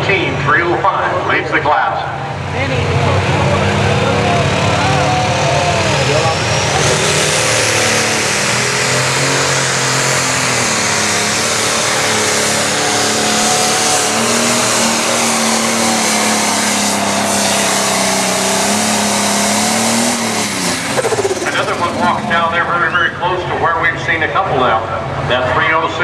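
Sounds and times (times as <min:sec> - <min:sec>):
diesel tractor engine at full throttle: 0:00.0 - 0:26.0.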